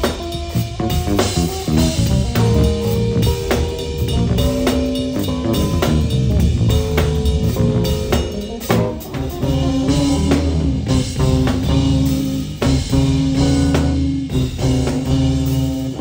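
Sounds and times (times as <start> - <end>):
drum kit: 0.0 - 16.0
electric bass: 0.0 - 16.0.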